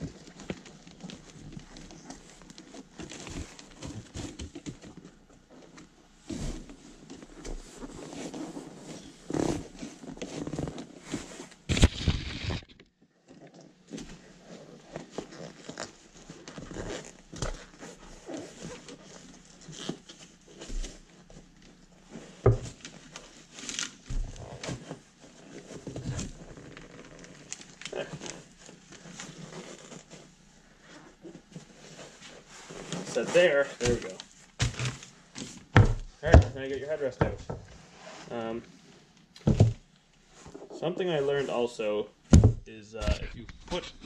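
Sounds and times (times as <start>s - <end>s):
fabric rustling and crinkling: 0.0s - 41.6s.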